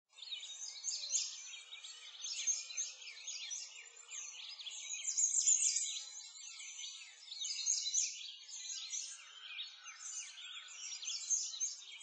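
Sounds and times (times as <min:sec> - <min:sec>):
many small birds chirping: 0:00.1 - 0:12.0.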